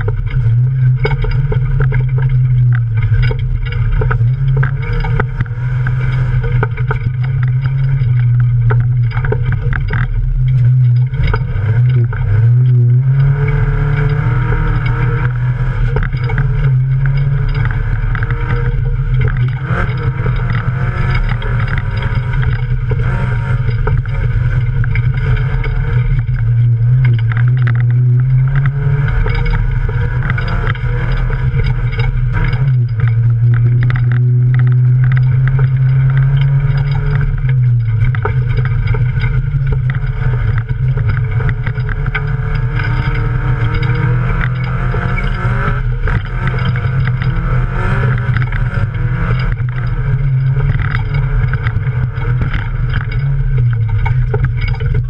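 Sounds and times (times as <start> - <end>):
knocks and rattles over rough ground: 0.0 - 55.0
race car engine running hard: 0.0 - 55.0.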